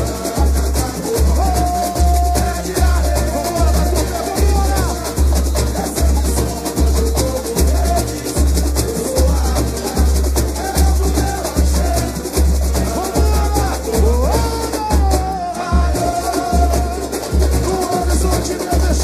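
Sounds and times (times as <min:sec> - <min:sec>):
deep surdo drum beats: 0:00.0 - 0:19.0
rattle of shakers and percussion: 0:00.0 - 0:19.0.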